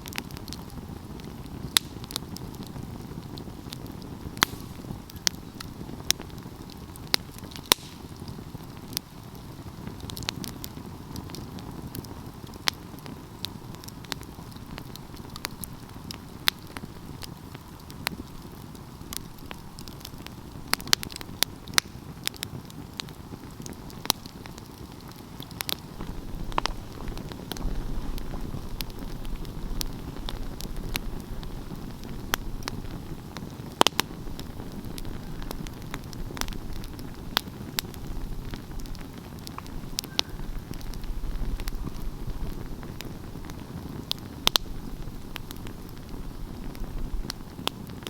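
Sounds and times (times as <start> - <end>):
fire crackling and popping: 0.0 - 48.0
fire flames rushing: 0.0 - 48.0.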